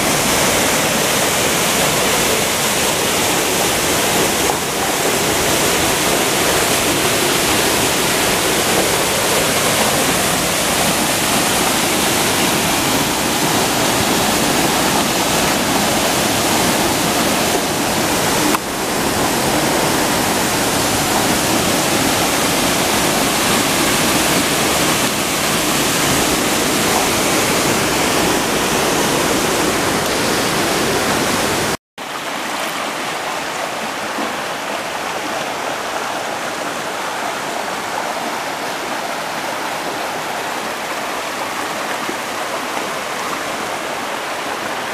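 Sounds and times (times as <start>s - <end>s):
river water rushing over boulders: 0.0s - 44.9s
shallow stream over stones: 0.0s - 44.9s.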